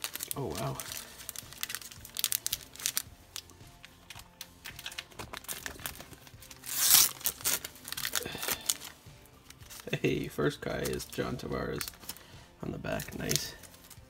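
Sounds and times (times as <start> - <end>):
plastic wrapper ripping: 0.0 - 12.3, 12.9 - 14.0
plastic wrapper crinkling: 0.0 - 14.0.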